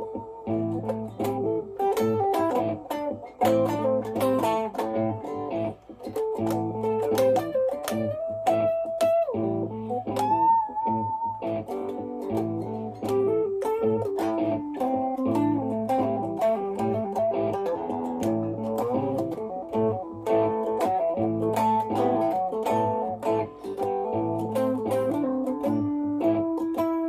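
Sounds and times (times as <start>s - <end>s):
electric guitar lead: 0.0s - 27.0s.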